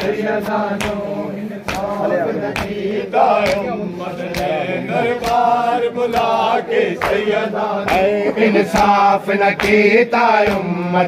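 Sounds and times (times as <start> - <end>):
men chanting together: 0.0 - 11.0
rhythmic chest-beating slaps: 0.0 - 11.0.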